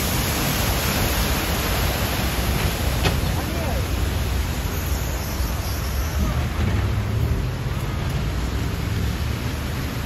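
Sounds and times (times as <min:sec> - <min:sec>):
heavy rain: 0:00.0 - 0:10.0
running floodwater: 0:00.0 - 0:10.0.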